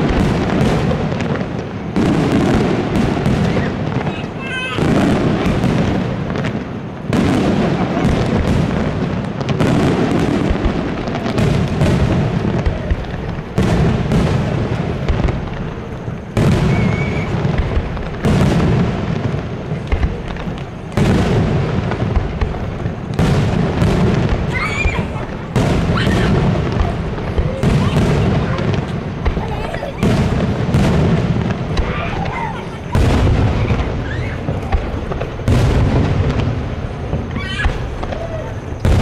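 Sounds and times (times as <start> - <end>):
firework shells booming: 0.0 - 39.0.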